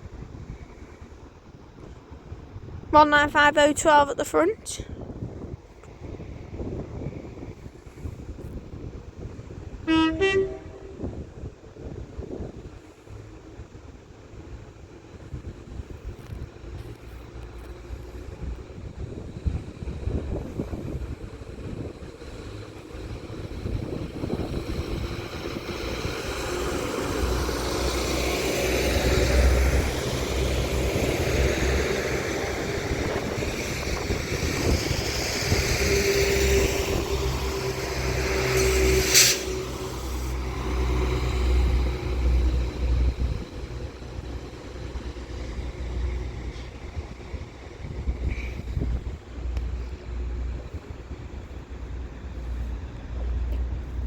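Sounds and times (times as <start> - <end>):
diesel train engines passing: 0.0 - 54.0.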